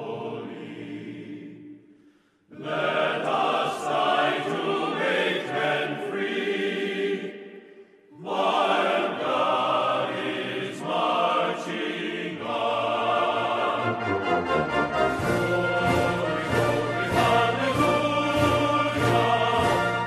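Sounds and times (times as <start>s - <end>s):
choir singing sustained chords: 0.0s - 20.0s.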